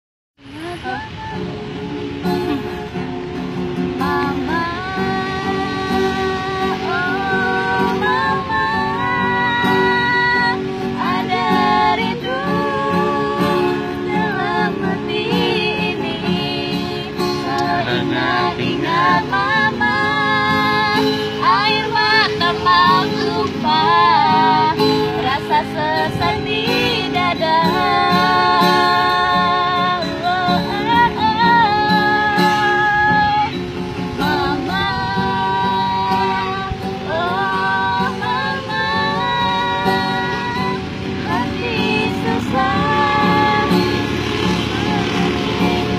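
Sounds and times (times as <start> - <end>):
woman singing: 0.5 - 3.0, 3.8 - 45.9
guitar chords: 0.5 - 45.9.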